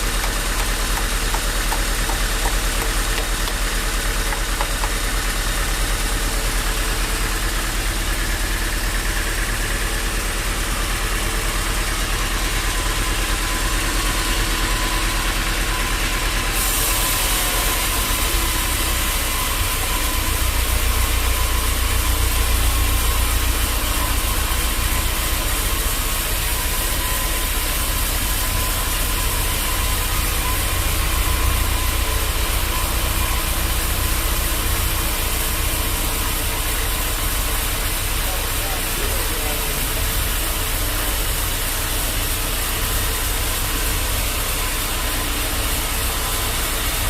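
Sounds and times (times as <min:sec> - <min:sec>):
bandsaw machinery running: 0:00.0 - 0:47.0.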